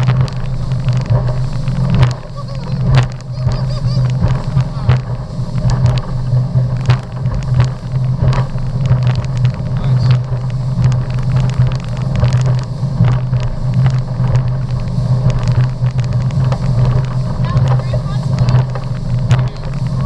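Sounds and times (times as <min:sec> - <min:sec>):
hull knocking on water: 0:00.0 - 0:20.0
motorboat engine drone: 0:00.0 - 0:20.0.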